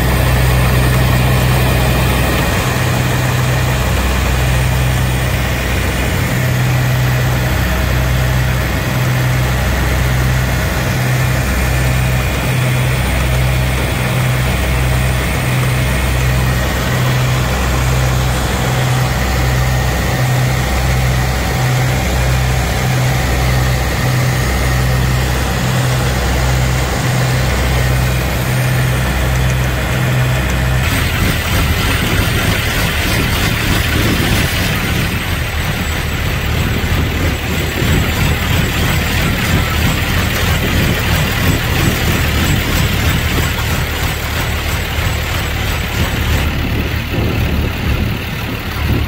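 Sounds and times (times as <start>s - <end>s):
boat diesel engines throbbing: 0.0s - 49.0s.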